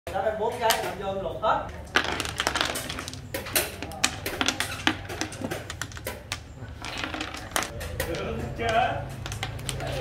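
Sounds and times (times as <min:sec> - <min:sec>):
game pieces clacking on wooden board: 0:01.8 - 0:10.0.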